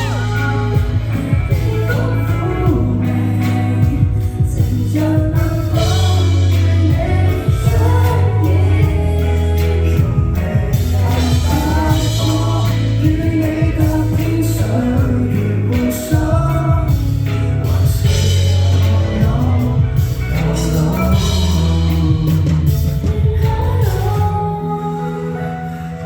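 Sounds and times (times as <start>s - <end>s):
song with singing voice and beat: 0.0s - 26.0s.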